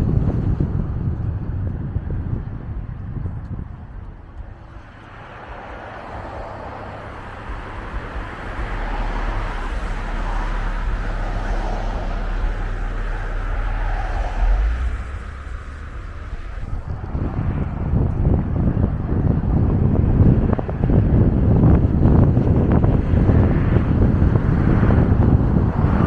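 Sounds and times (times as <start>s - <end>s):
cars passing close by: 0.0s - 26.0s
low rumble: 0.0s - 26.0s.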